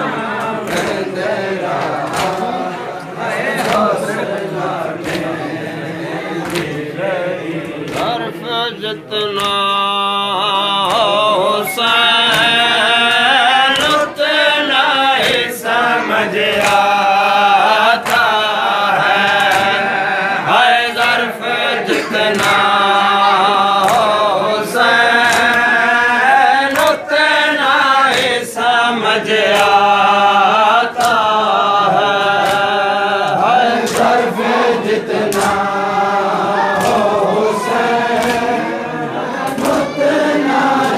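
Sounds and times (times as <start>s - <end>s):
men chanting in unison: 0.0s - 40.9s.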